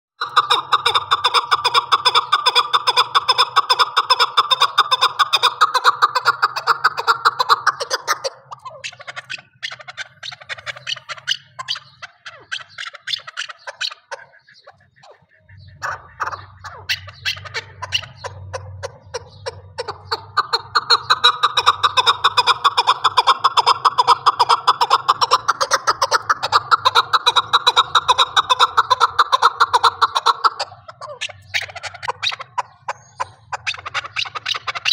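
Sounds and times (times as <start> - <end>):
partridge clucking calls: 0.2 - 34.9.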